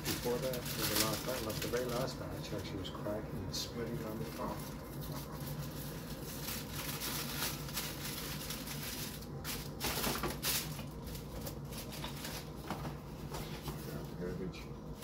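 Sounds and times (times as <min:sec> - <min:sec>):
plastic wrapping rustling: 0:00.0 - 0:14.3.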